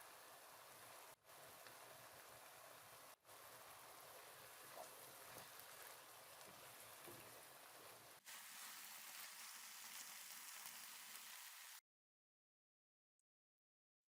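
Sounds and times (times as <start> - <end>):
meat sizzling in a pan: 0.0 - 11.8.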